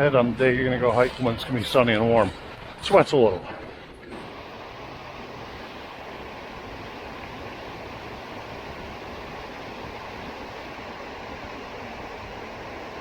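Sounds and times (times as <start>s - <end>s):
falling water rushing: 0.4s - 13.0s.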